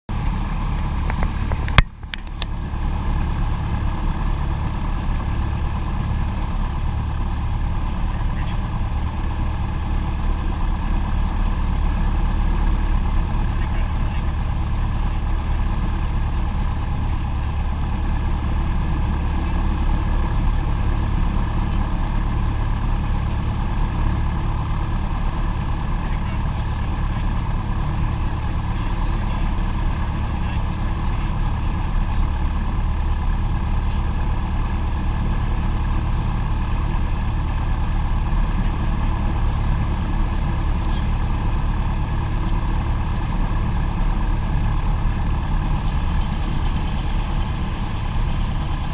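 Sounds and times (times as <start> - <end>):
aircraft engines droning: 0.1 - 48.9.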